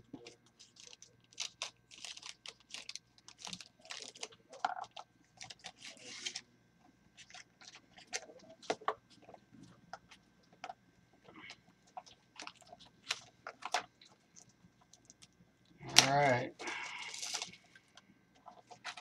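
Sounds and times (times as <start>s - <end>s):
plastic wrapper crinkling: 0.1s - 6.4s, 7.2s - 9.4s, 10.0s - 19.0s.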